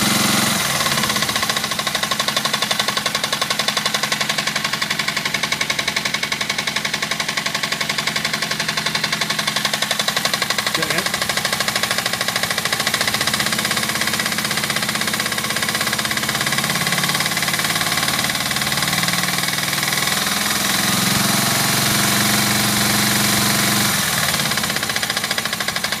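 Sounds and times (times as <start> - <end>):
motorcycle engine idling with knock: 0.0 - 26.0
motorcycle engine revving: 0.0 - 26.0.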